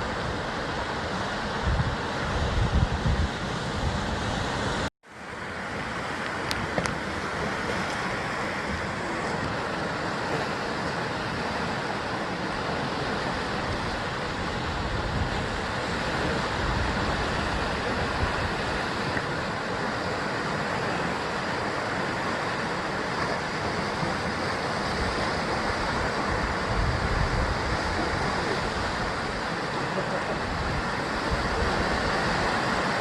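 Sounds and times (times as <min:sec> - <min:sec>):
wind buffeting microphone: 0:00.0 - 0:04.9, 0:06.3 - 0:33.0
waves breaking on rocks: 0:00.0 - 0:33.0.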